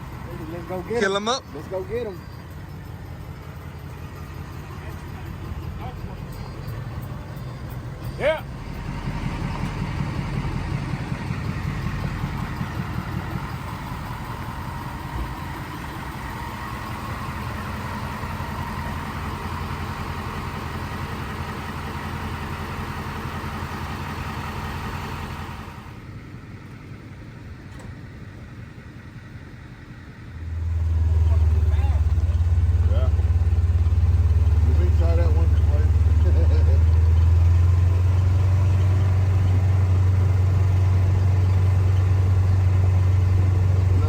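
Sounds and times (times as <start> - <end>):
road and wind noise: 0.0 - 44.0
vehicle engine humming: 0.0 - 44.0.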